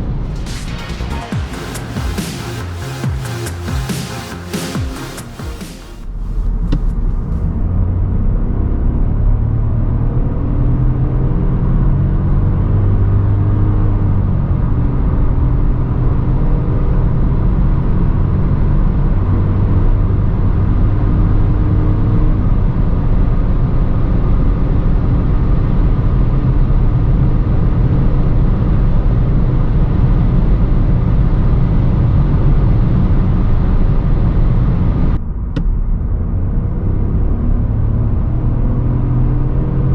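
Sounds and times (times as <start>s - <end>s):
road and wind noise: 0.0s - 0.9s, 6.0s - 39.9s.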